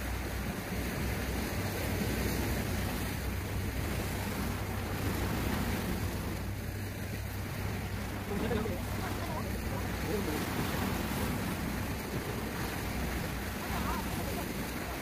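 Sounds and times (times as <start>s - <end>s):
sea waves breaking on rocks: 0.0s - 15.0s
wind on microphone: 0.0s - 15.0s.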